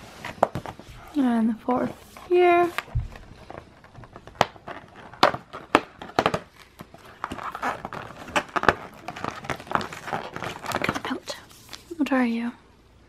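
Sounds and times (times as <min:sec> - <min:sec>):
soft crinkling rustle: 0:00.0 - 0:12.4.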